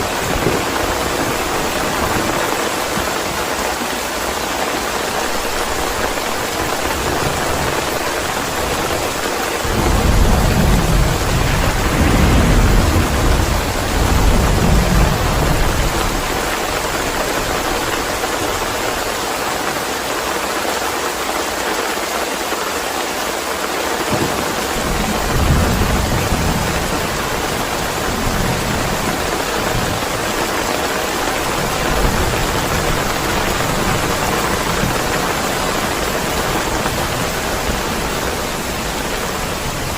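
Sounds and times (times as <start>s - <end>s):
thunder rumbling: 0.0s - 3.4s, 5.2s - 19.1s, 24.1s - 39.9s
heavy rain hissing: 0.0s - 39.9s.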